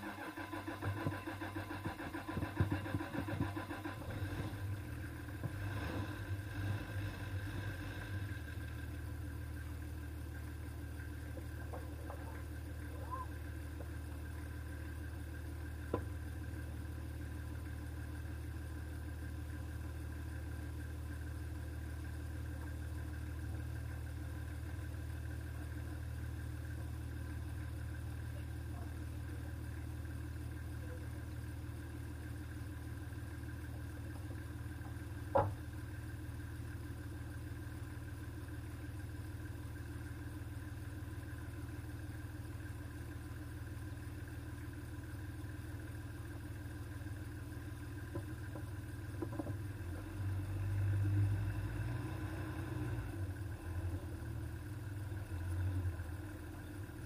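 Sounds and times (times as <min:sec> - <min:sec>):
engine running with low drone: 0:00.0 - 0:57.0.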